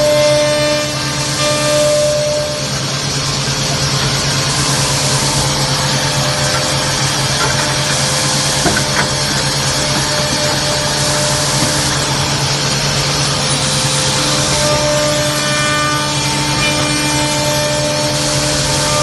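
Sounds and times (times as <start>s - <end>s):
machine motor hum and hiss: 0.0s - 19.0s.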